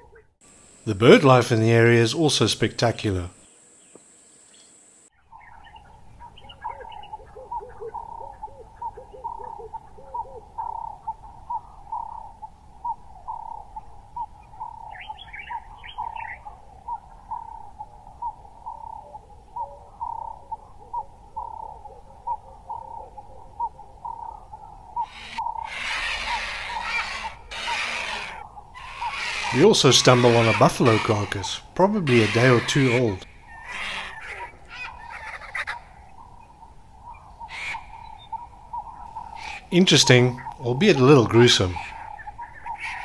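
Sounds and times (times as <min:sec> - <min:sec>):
lower bird notes: 0:00.0 - 0:43.0
high bird chatter: 0:03.4 - 0:43.0.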